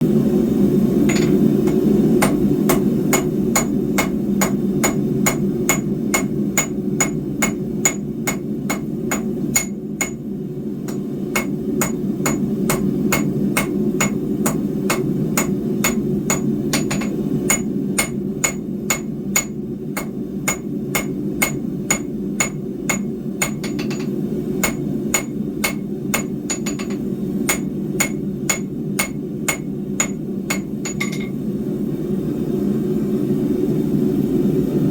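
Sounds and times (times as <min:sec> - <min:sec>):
hammer striking steel on anvil: 0:01.1 - 0:10.3, 0:10.9 - 0:31.4.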